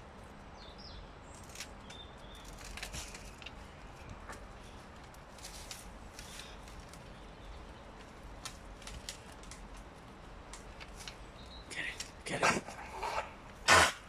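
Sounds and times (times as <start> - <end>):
leaves rustling: 0.0 - 14.0
steady hiss: 0.0 - 14.0
stems crackling and snapping: 0.7 - 14.0.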